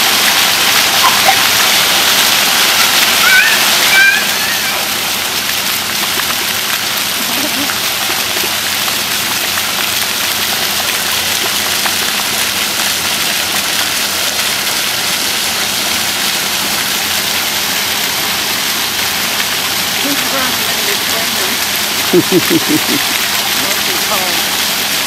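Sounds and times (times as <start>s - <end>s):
fountain water spraying: 0.0s - 25.0s.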